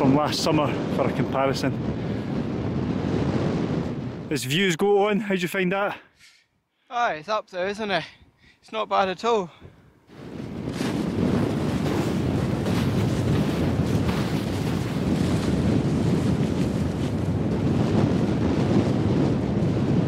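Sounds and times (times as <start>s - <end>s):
wind buffeting microphone: 0.0s - 5.2s, 7.7s - 20.0s.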